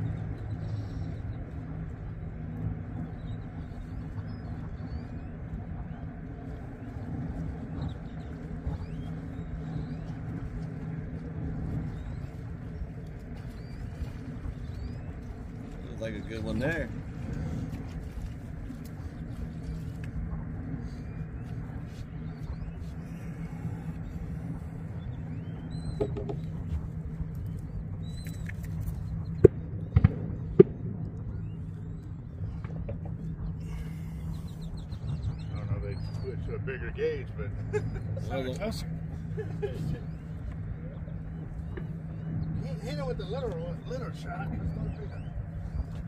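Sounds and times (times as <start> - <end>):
distant motor droning: 0.0 - 46.0
wind rumbling on microphone: 0.0 - 46.0.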